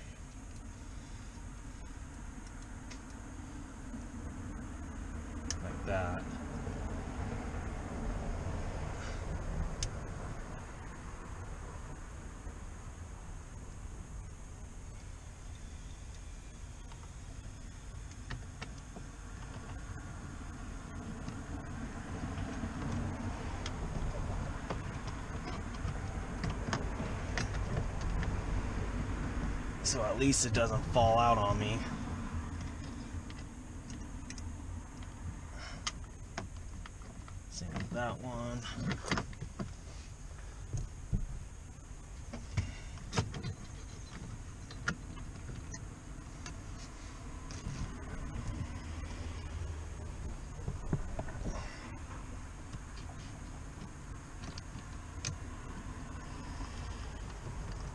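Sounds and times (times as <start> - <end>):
steady low rumble: 0.0 - 57.9.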